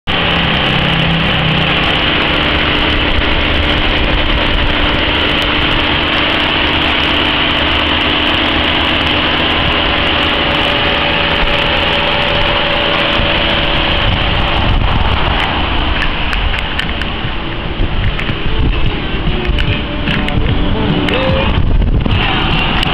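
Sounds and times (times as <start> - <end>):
car engine idling: 0.0 - 22.9
steady high hiss: 0.1 - 22.9.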